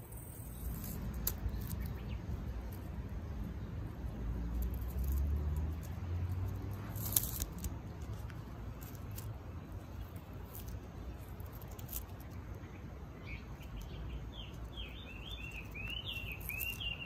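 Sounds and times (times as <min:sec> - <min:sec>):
cat claws scratching asphalt: 0:00.0 - 0:17.0.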